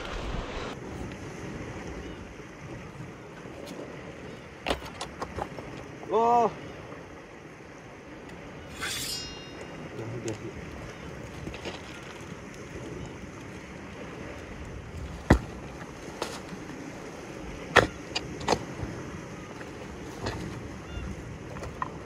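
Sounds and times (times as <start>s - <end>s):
sea noise: 0.0s - 22.0s
wind: 0.0s - 22.0s.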